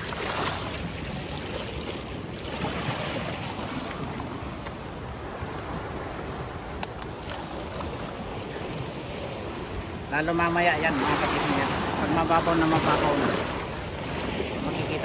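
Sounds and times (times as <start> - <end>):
sea surf washing over rocks: 0.0 - 15.0
wind rumbling on microphone: 0.0 - 15.0.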